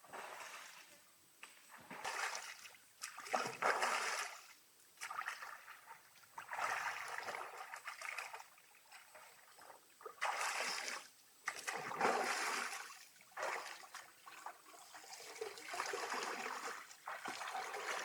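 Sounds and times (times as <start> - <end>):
water splashing and sloshing: 0.0 - 1.0, 1.7 - 18.0.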